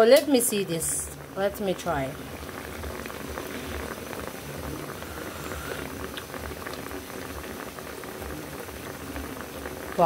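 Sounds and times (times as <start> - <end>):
broth boiling with popping bubbles: 0.0 - 10.0.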